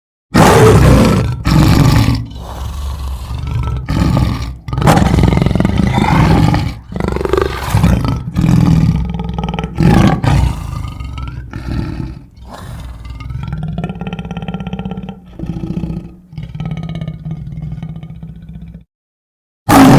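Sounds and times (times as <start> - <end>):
cartoon lion roars and growls: 0.3 - 18.9, 19.7 - 19.9.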